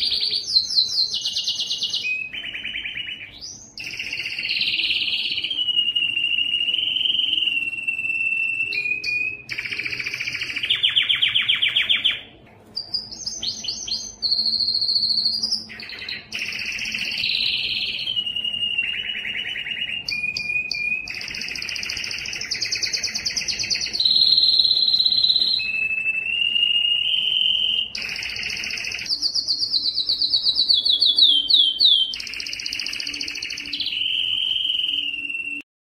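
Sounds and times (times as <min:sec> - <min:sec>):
canary singing trills: 0:00.0 - 0:35.6.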